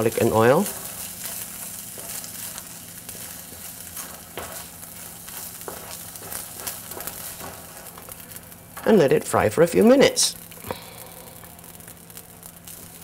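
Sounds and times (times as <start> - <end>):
rice sizzling in oil: 0.0 - 13.0.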